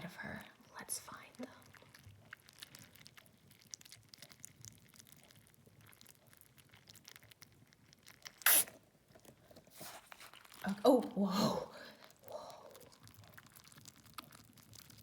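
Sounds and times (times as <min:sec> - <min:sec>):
wet squishing of squishy toy: 0:00.0 - 0:15.0.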